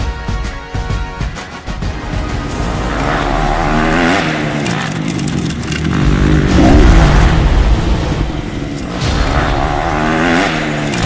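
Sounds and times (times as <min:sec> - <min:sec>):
motocross bike engine revving: 0:01.9 - 0:11.0.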